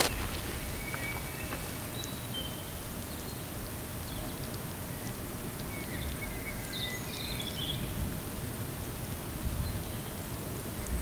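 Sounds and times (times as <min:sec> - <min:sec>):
wind buffeting the microphone: 0:00.0 - 0:03.1, 0:04.0 - 0:11.0.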